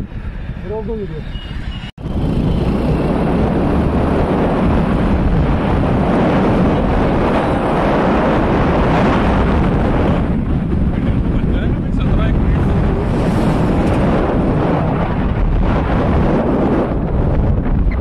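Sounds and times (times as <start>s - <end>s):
vehicle road and engine noise: 0.0s - 15.8s
wind buffeting microphone: 0.0s - 18.0s.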